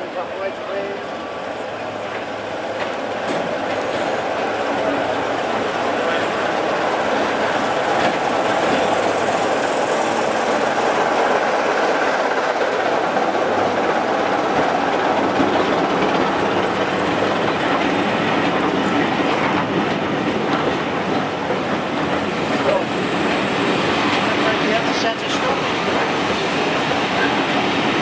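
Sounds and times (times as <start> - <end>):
diesel locomotive passing: 0.0 - 28.0
train wheels on rails: 0.0 - 28.0.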